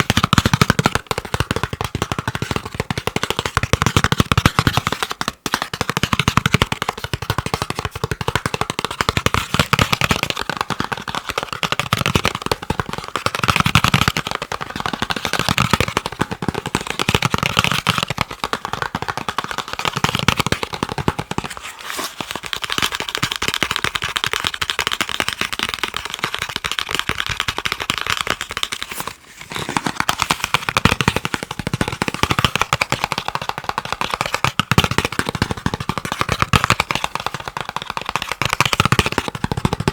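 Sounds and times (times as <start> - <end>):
fast tapping on chocolate: 0.0 - 21.6, 22.2 - 39.9.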